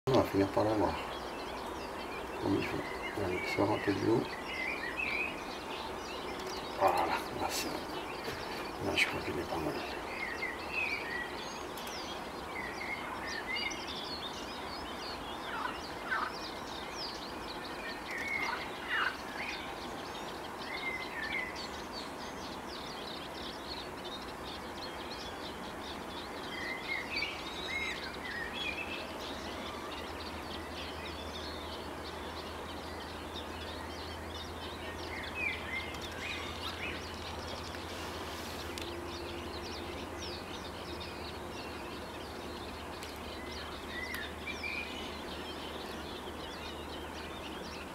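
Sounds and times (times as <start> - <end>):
birds chirping: 0.0 - 47.9
outdoor background noise: 0.1 - 47.9.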